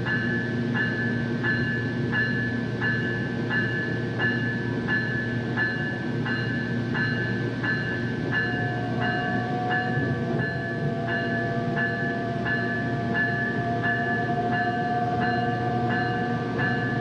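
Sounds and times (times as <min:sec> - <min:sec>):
train bell ringing: 0:00.0 - 0:17.0
train rumbling: 0:00.0 - 0:17.0.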